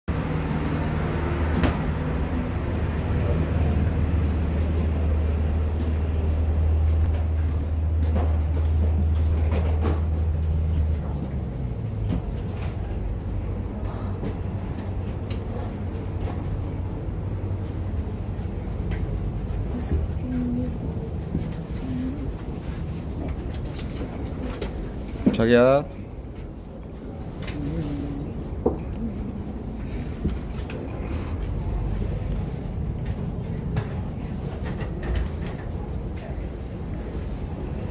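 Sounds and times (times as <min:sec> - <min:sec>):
vehicle low rumble: 0:00.1 - 0:37.9.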